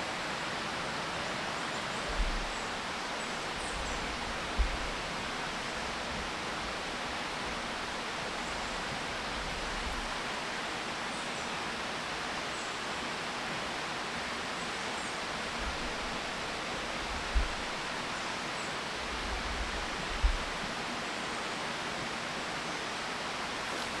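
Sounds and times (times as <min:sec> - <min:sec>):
rushing outdoor hiss: 0:00.0 - 0:24.0.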